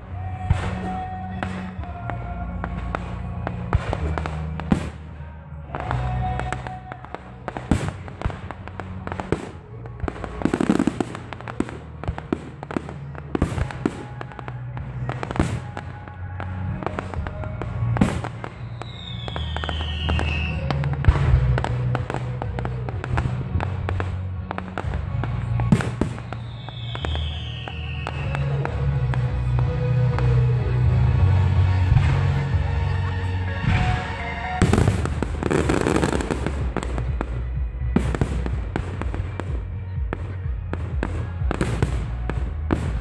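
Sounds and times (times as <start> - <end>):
fireworks bangs and crackles: 0.0 - 43.0
music with low notes: 0.0 - 43.0.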